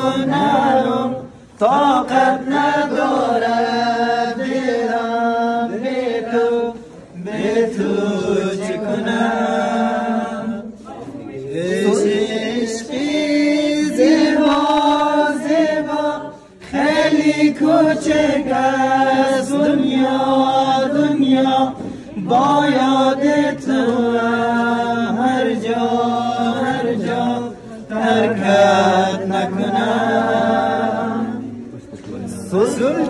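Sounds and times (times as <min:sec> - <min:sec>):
men singing unaccompanied: 0:00.0 - 0:10.8, 0:11.5 - 0:31.7.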